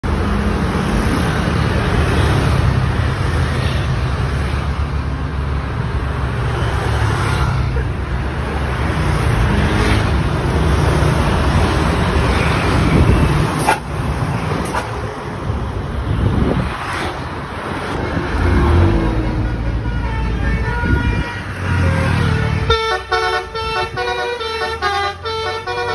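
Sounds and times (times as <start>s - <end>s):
road traffic rumble: 0.0s - 25.9s
tyres on asphalt: 0.0s - 25.9s.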